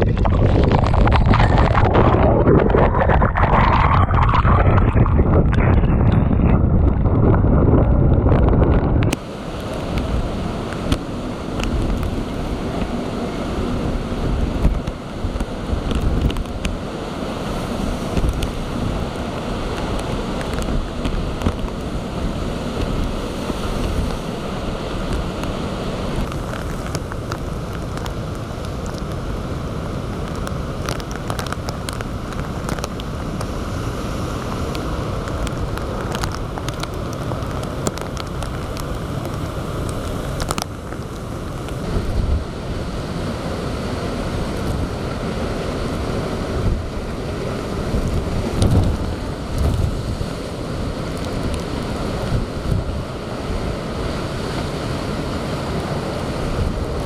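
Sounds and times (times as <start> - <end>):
strong wind: 0.0 - 57.0
waves breaking: 0.0 - 57.0
wind buffeting microphone: 0.0 - 57.0.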